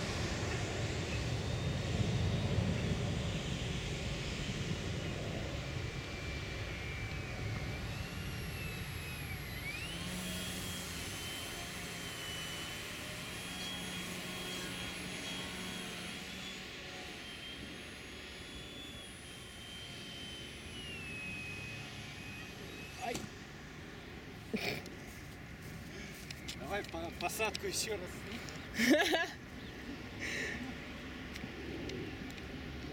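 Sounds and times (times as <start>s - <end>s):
model plane motor whine: 0.0s - 28.7s.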